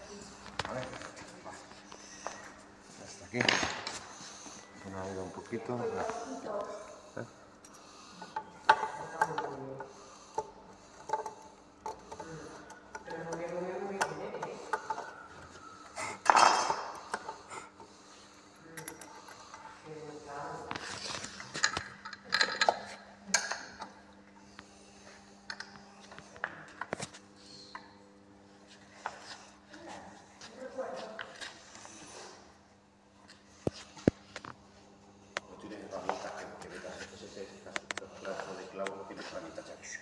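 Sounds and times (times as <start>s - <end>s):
faint hum: 0.0s - 40.0s.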